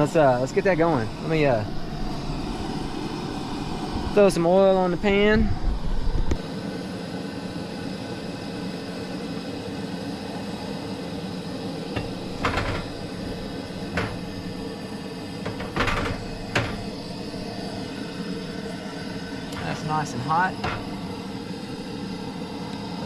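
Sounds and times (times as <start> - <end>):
camp stove running: 0.0 - 23.0.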